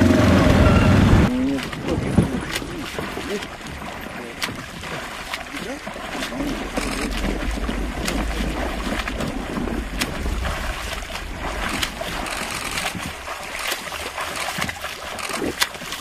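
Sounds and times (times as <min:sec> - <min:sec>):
water splashing and lapping: 0:00.0 - 0:16.0
wind rumbling on microphone: 0:00.0 - 0:16.0.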